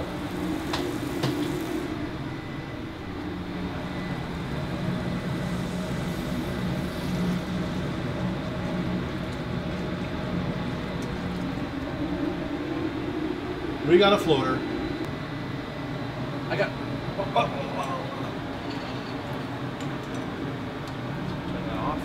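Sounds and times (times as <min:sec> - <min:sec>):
ventilation hood fan humming: 0:00.0 - 0:22.0.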